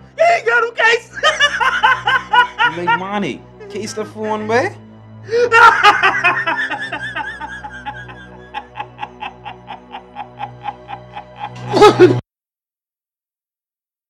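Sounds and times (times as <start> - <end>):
background music: 0.0 - 12.2.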